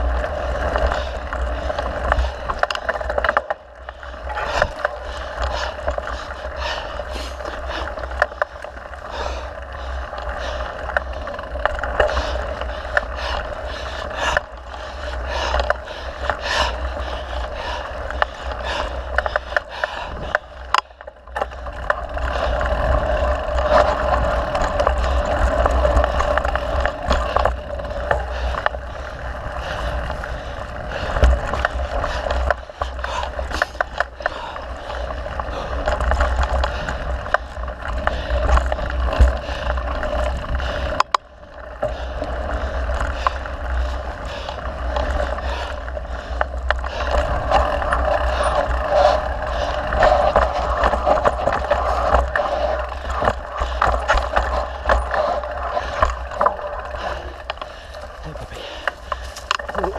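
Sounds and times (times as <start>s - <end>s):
bike rattling over bumps: 0.0s - 59.9s
bike tyres rolling on dirt: 0.0s - 59.9s.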